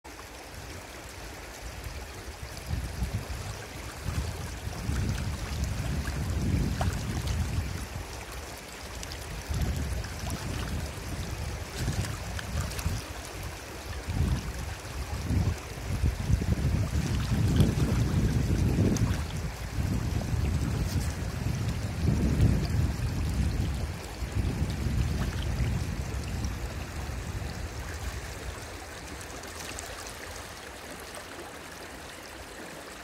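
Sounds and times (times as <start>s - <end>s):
stream running over stones: 0.1s - 33.0s
wind buffeting microphone: 1.8s - 8.2s, 9.2s - 29.3s.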